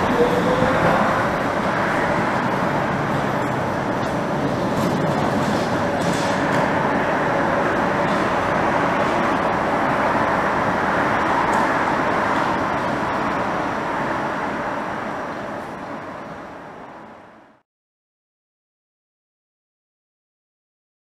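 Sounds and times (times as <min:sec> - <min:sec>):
metro train rushing rumble: 0:00.0 - 0:17.6.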